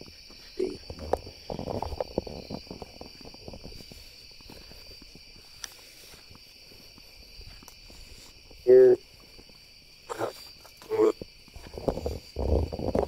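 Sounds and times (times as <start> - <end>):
crickets chirring: 0.0 - 13.0
footsteps crunching on ground: 0.0 - 13.0.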